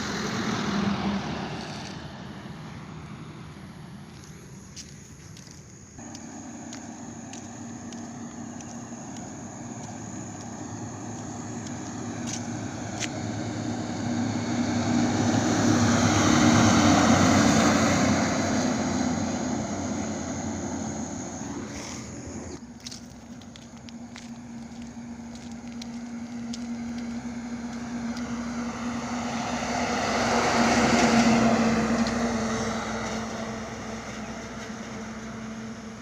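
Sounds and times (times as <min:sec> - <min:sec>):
truck passing on highway: 0:00.0 - 0:36.0.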